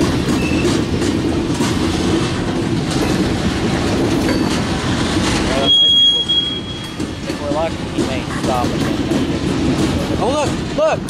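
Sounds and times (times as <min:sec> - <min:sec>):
train wheels rumbling on rail: 0:00.0 - 0:11.0
wheels clicking over rail joints: 0:00.0 - 0:11.0.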